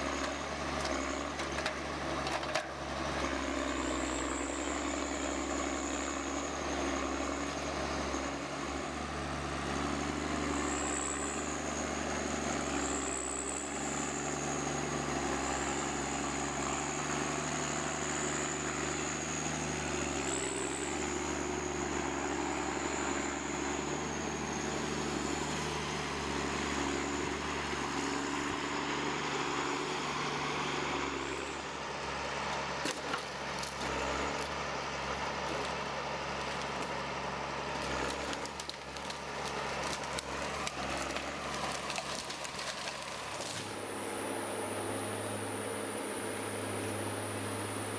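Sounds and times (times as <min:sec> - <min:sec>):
machinery engine with high whine: 0:00.0 - 0:47.9.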